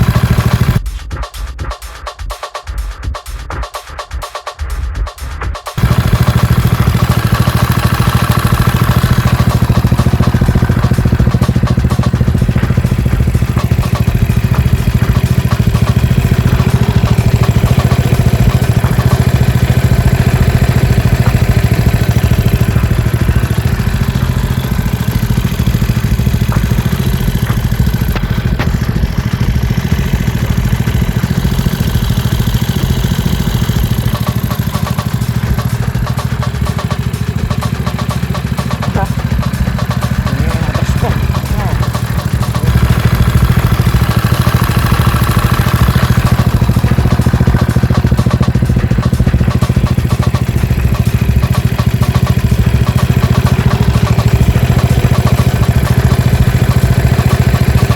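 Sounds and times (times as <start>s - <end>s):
scooter engine running: 0.0s - 0.8s, 5.8s - 57.9s.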